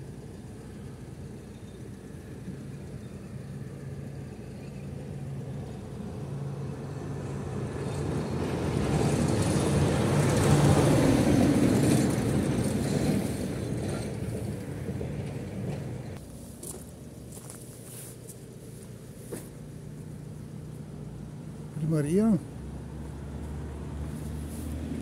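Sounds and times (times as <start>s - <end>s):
dump truck passing: 0.0s - 25.0s.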